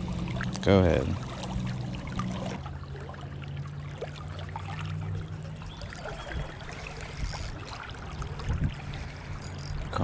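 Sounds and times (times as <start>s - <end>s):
creek water trickling: 0.0s - 10.0s
low steady hum: 0.0s - 10.0s.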